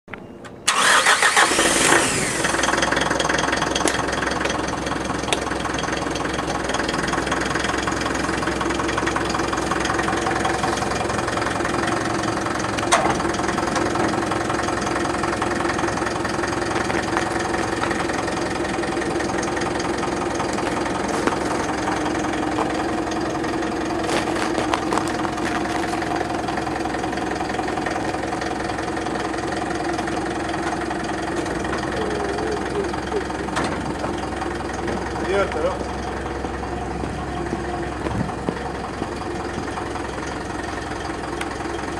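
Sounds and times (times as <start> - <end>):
truck engine cranking: 0.4 - 41.9
truck engine idling: 0.4 - 41.9.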